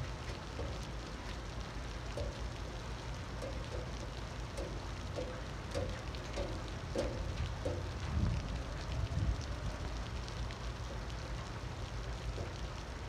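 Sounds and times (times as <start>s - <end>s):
light rain hiss: 0.0s - 13.0s
raindrop ticks: 0.0s - 13.0s.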